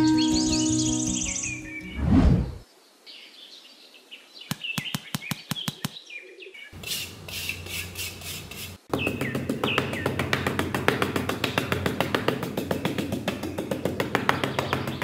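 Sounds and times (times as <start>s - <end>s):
small birds chirping: 0.0s - 2.0s, 2.6s - 15.0s.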